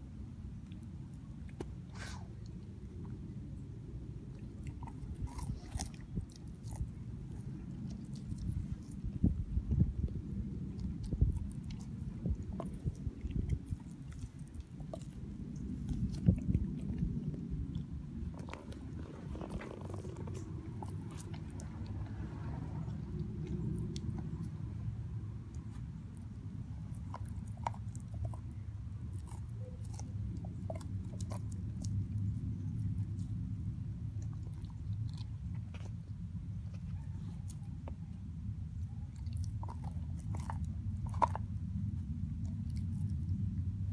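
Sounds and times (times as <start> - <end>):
steady low rumble: 0.0 - 43.9
dog chewing a bone: 0.4 - 43.9.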